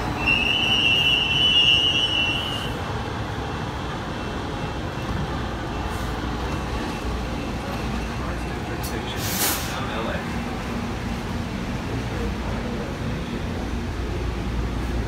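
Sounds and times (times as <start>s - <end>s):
train rumbling hum: 0.0s - 15.0s.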